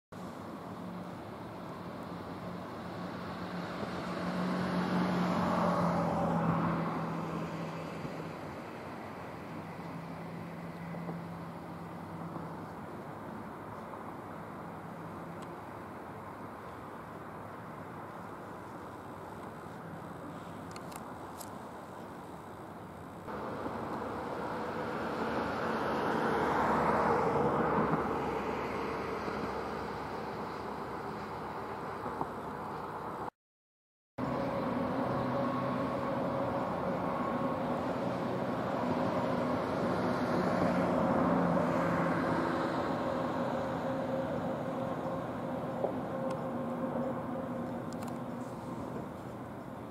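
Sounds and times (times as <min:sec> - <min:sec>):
road vehicle passing: 0:00.2 - 0:21.0, 0:23.0 - 0:33.3, 0:34.2 - 0:49.9.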